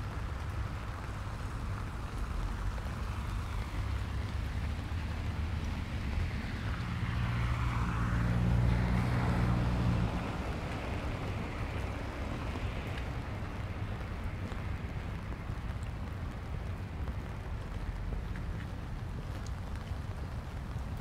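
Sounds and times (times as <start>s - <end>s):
steady rain: 0.0s - 21.0s
vehicle passing on wet road: 0.0s - 21.0s.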